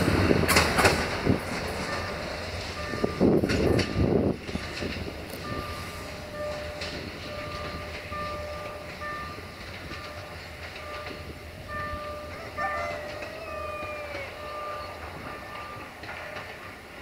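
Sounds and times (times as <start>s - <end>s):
train rumble: 0.0s - 17.0s
train wheels clattering over rail joints: 0.0s - 17.0s.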